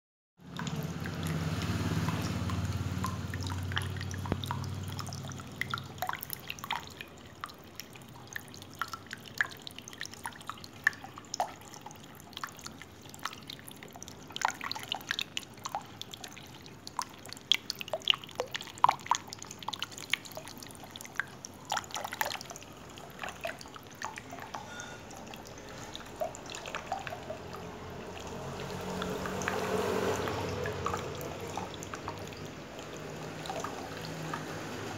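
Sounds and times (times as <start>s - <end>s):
fountain water dripping and trickling: 0.4s - 34.9s.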